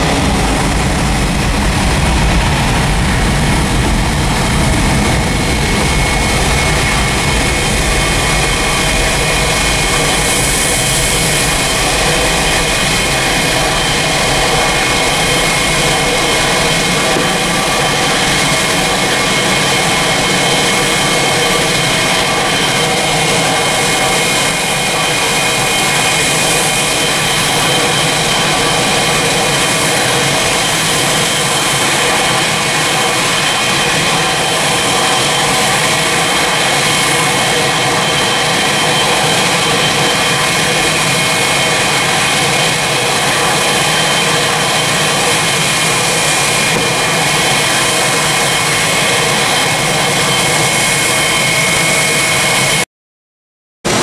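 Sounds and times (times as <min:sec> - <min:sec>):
jet engines roaring: 0:00.0 - 0:52.8.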